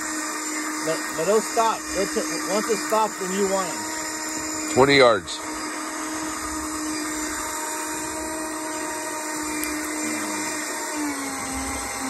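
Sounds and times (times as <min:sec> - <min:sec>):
fishing reel motor whirring: 0:00.0 - 0:12.0.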